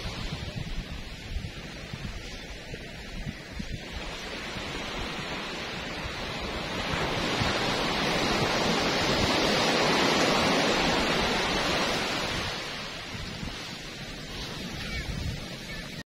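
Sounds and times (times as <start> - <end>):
surf breaking on beach: 0.0 - 16.0.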